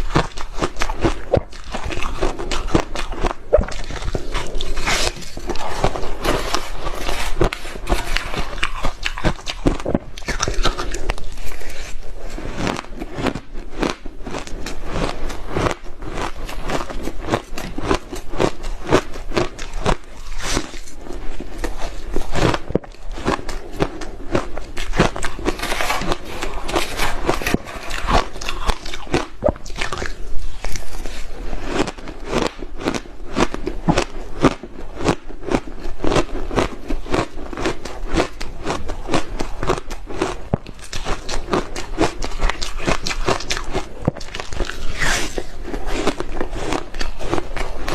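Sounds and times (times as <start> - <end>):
ice being chewed: 0.0 - 47.9.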